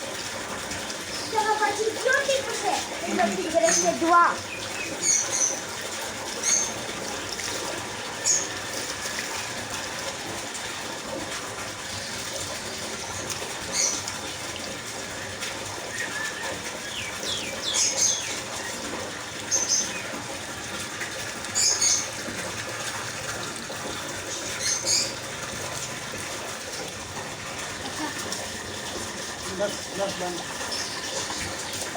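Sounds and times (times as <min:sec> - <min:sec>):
water running: 0:00.0 - 0:31.9.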